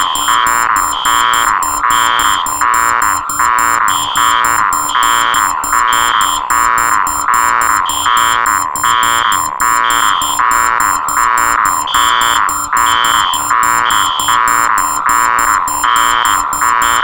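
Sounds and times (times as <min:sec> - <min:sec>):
falling alarm tones: 0:00.0 - 0:17.0
higher electronic beep: 0:00.0 - 0:17.0
steady high alarm tone: 0:00.0 - 0:17.0.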